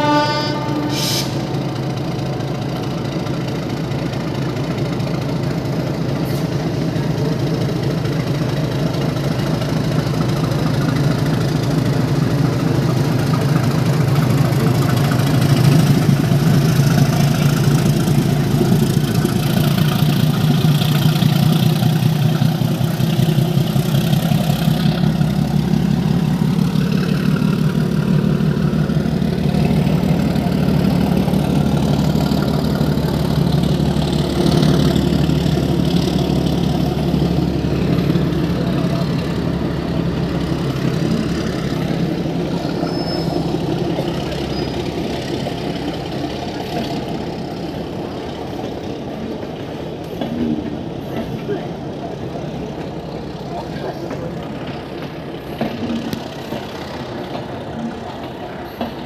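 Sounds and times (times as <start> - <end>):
low train engine drone: 0.0 - 59.0.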